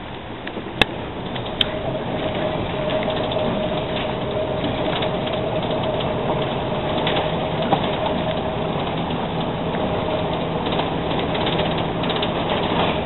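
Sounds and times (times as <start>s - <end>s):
rack railway train rumbling: 0.0s - 13.0s
wheel and track clicks: 0.4s - 13.0s.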